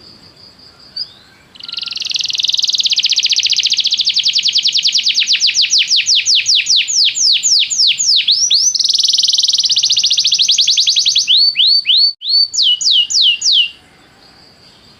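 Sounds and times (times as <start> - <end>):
canary singing: 0.8 - 14.9.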